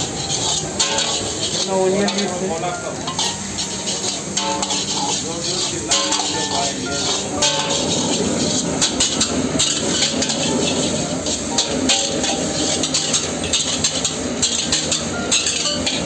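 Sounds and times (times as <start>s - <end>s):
gas burner noise: 0.0s - 16.0s
metal ladle scraping wok: 0.0s - 16.0s.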